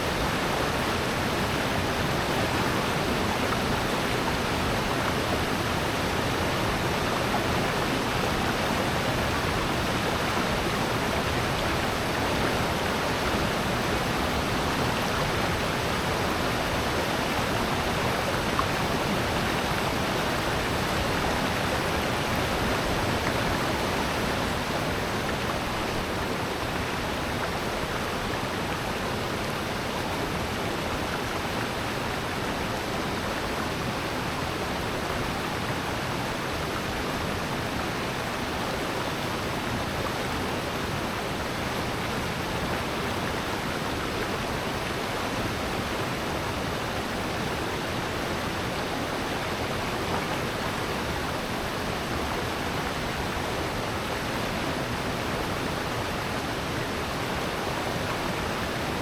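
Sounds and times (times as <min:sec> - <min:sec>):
rushing stream water: 0:00.0 - 0:59.0.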